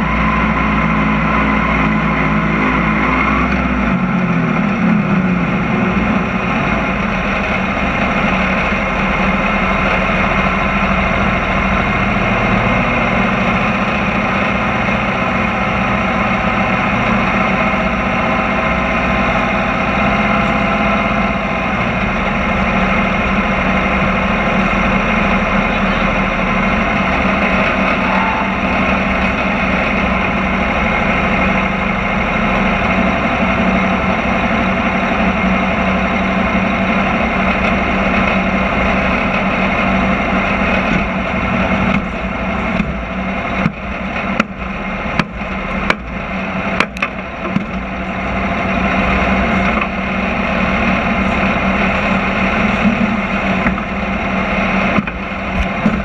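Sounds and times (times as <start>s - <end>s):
race car engine idling: 0.0s - 56.0s.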